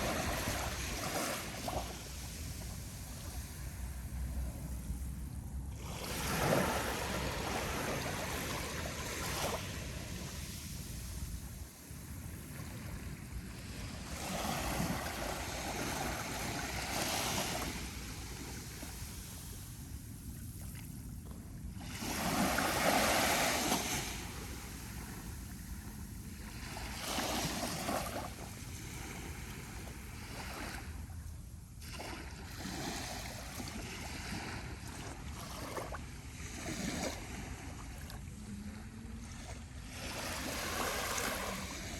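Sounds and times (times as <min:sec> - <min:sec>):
gentle waves washing on sand: 0:00.0 - 0:41.9
wind rumble on microphone: 0:00.0 - 0:41.9.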